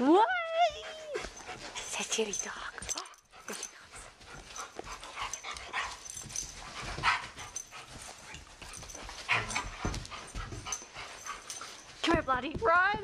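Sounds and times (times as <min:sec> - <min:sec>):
dogs whimpering: 0:00.4 - 0:12.0
dogs panting: 0:00.5 - 0:13.0.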